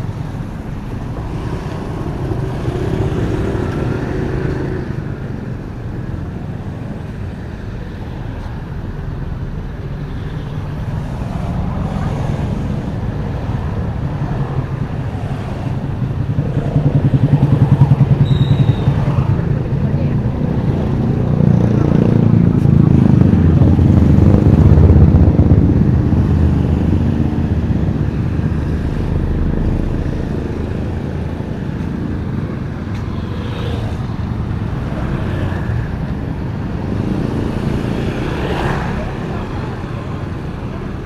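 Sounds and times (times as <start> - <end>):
motorbike passing close: 0.0 - 6.6, 10.9 - 41.0
traffic passing: 0.0 - 41.0.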